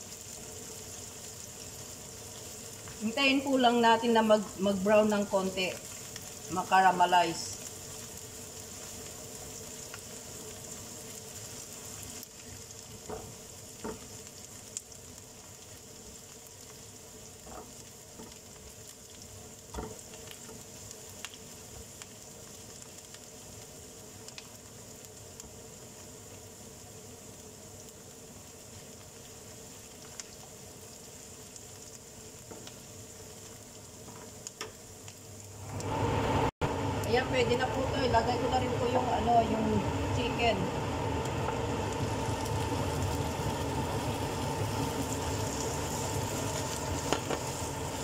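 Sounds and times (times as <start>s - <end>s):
onion and garlic sizzling in pan: 0.0s - 48.0s.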